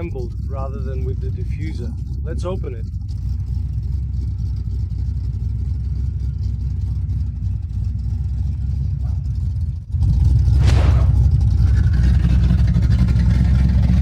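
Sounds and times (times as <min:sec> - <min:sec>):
car engine exhaust rumble: 0:00.0 - 0:14.0.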